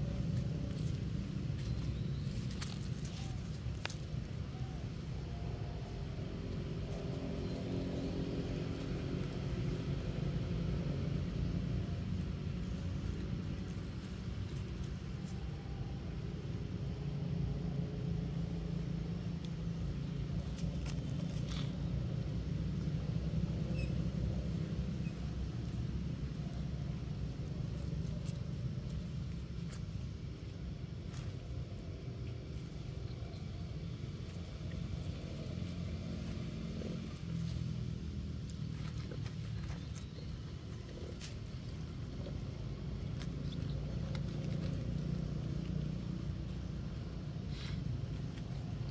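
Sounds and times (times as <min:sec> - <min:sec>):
rustles: 0:00.0 - 0:48.9
steady low rumble: 0:00.0 - 0:48.9.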